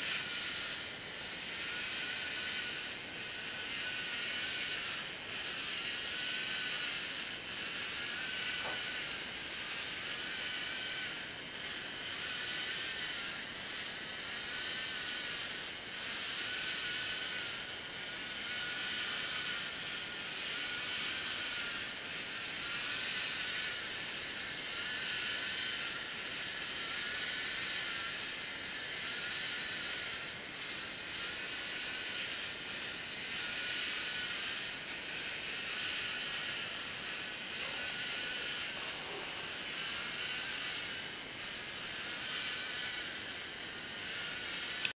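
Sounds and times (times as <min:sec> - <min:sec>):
robot motors whining: 0:00.0 - 0:44.9.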